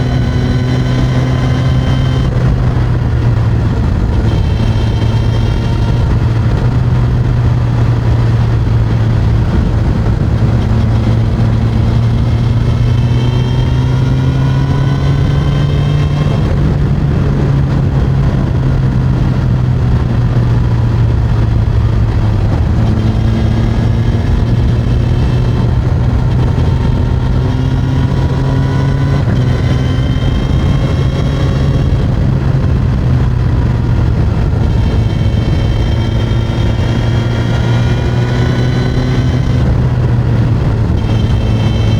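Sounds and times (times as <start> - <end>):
motorcycle engine drone while riding: 0.0 - 41.9.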